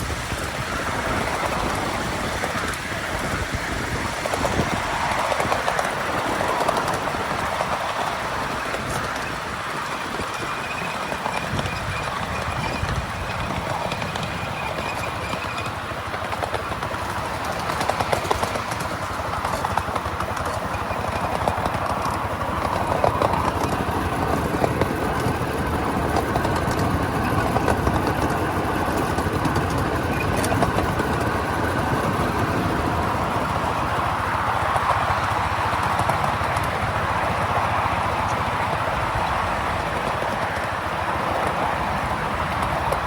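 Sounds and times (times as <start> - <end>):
miniature train wheels clattering: 0.0 - 43.0.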